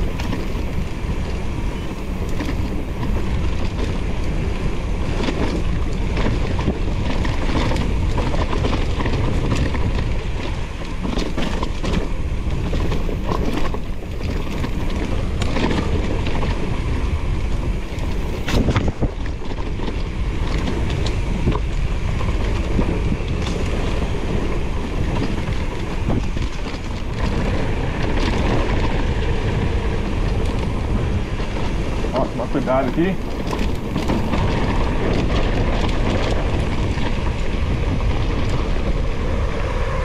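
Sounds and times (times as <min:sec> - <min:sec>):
bike knocks and rattles: 0:00.0 - 0:16.8, 0:17.6 - 0:39.0
wind and tyre noise: 0:00.0 - 0:40.0.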